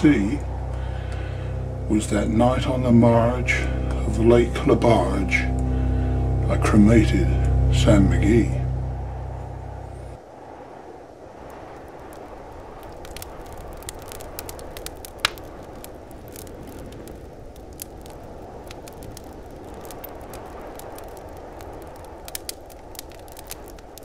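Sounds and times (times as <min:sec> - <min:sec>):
fire crackling and popping: 0:00.0 - 0:08.4, 0:09.9 - 0:24.0.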